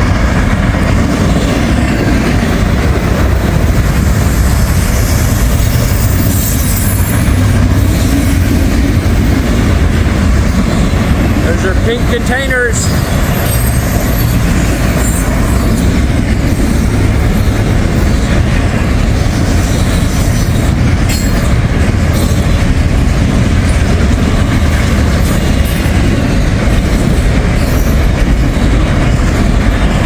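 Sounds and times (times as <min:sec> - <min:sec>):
freight train cars rolling past: 0:00.0 - 0:30.0.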